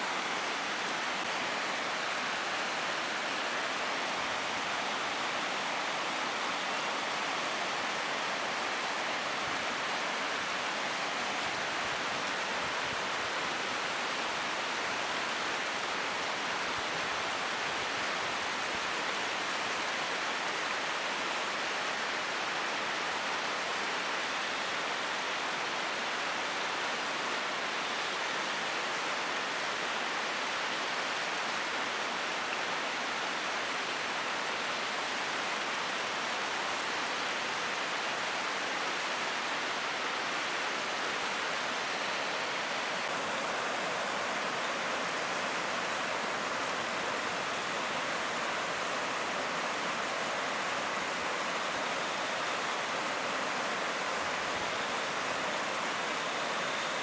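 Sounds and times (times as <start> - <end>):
whitewater rapids rushing over rocks: 0.0 - 57.0.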